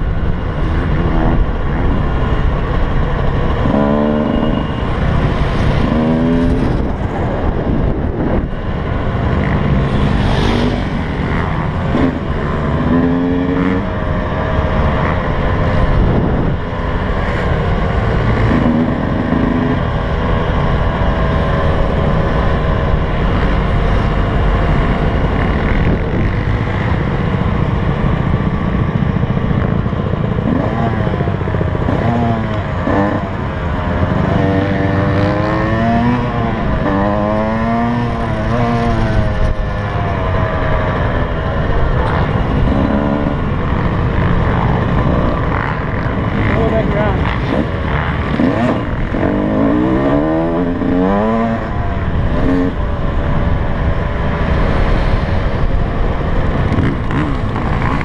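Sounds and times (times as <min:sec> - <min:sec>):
rushing wind: 0:00.0 - 0:58.0
two-stroke motorcycle engine: 0:00.0 - 0:58.0.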